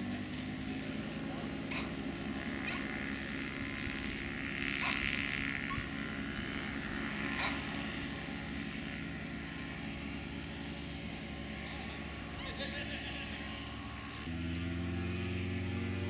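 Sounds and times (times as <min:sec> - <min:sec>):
distant ultralight aircraft engine: 0:00.0 - 0:16.0.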